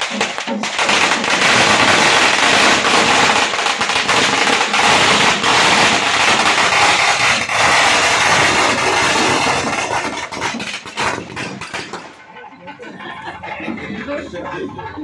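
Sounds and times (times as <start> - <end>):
firecrackers crackling: 0.0 - 12.5.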